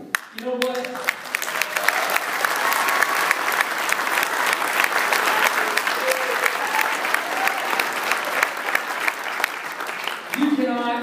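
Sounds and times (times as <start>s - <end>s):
crowd clapping: 0.0s - 11.0s.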